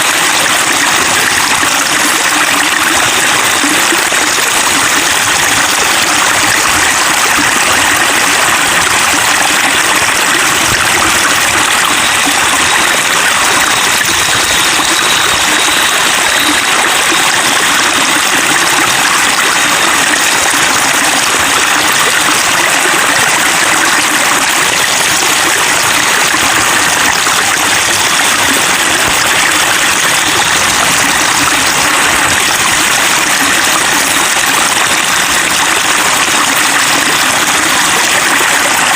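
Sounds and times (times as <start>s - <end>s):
water babbling: 0.0s - 38.9s.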